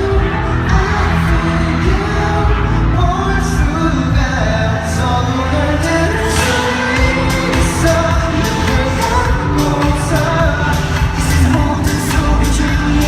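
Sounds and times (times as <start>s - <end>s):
live pop song with sung vocals: 0.0s - 13.0s.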